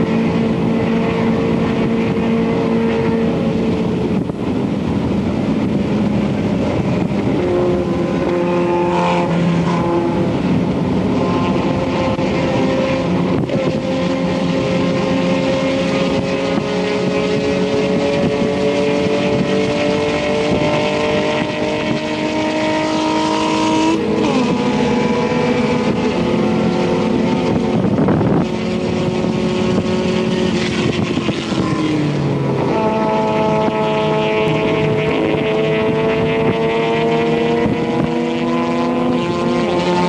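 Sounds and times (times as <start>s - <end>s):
race car engine under load: 0.0s - 40.0s
steady rushing noise: 0.0s - 40.0s.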